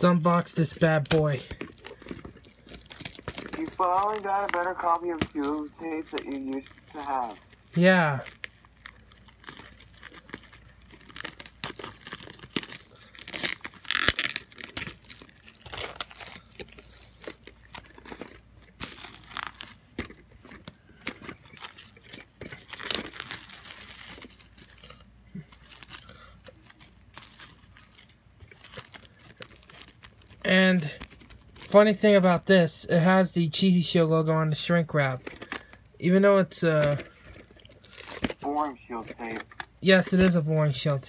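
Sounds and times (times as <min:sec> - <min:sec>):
plastic wrap ripping and crackling: 0:00.0 - 0:32.3, 0:36.7 - 0:40.8.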